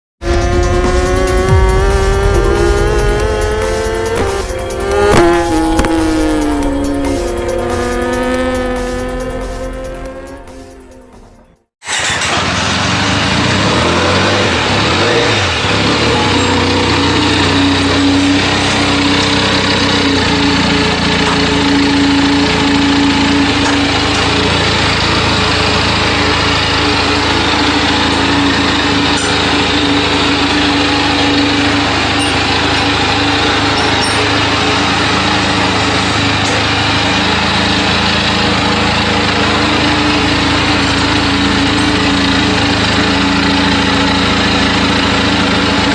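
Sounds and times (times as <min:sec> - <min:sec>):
motorcycle engine running: 0:00.2 - 0:45.9.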